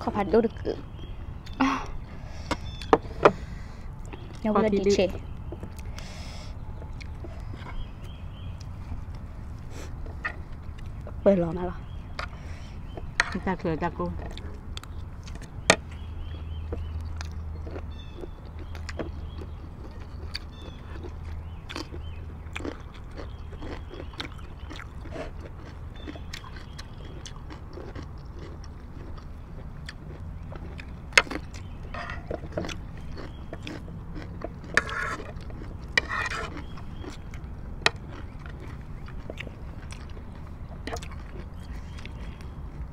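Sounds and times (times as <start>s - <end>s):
chewing and mouth smacks: 5.2s - 11.2s, 14.3s - 42.9s.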